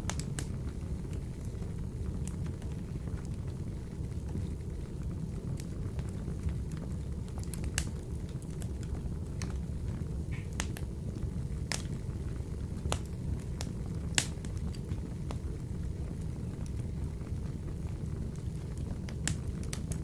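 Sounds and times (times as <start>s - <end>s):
burning logs crackling and popping: 0.0s - 20.0s
wood stove fire rumble: 0.0s - 20.0s.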